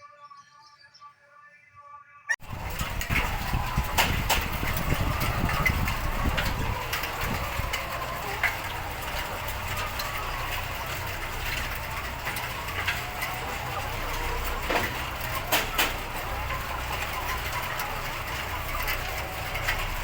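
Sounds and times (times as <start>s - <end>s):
low mechanical rumble: 2.4s - 20.0s.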